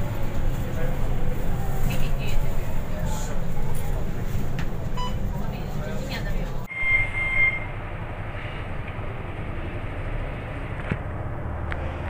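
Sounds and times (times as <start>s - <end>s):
bus engine hum from inside: 0.0s - 12.0s.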